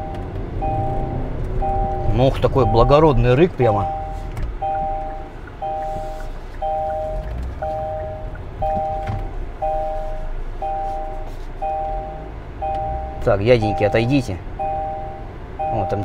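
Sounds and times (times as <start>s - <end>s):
low car hum: 0.0s - 16.0s
two-tone warning chime beeping: 0.0s - 16.0s.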